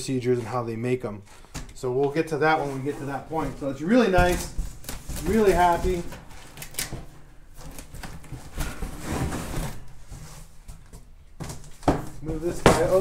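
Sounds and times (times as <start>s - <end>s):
cardboard flaps rustling: 2.4s - 13.0s.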